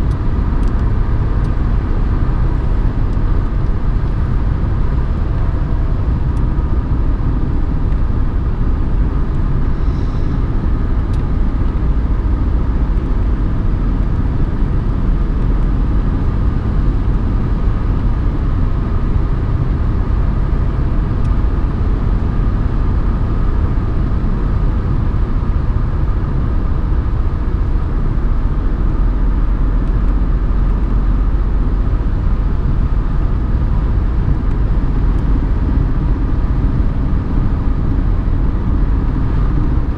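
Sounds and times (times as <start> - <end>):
diesel engine running: 0.0 - 39.9
tyres rumbling on road: 0.0 - 39.9.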